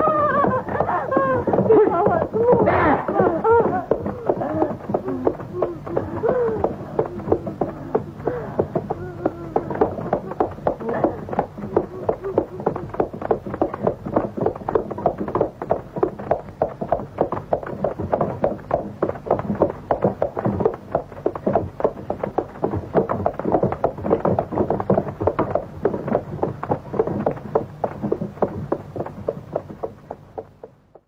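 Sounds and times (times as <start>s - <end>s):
horse hooves clip-clopping: 0.0s - 31.0s.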